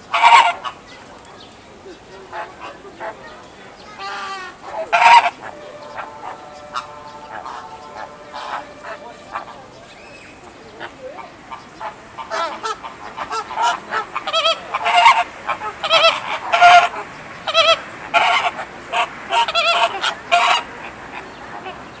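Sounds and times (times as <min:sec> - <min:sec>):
flamingos honking: 0:00.0 - 0:00.8, 0:02.2 - 0:22.0.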